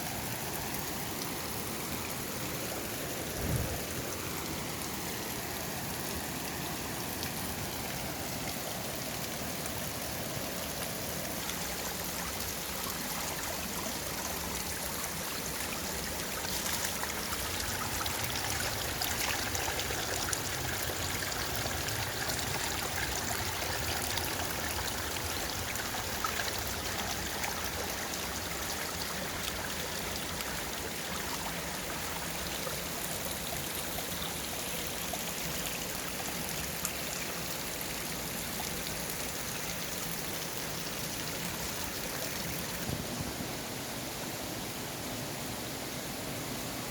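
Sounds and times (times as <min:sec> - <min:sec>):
stream flowing: 0:00.0 - 0:46.9.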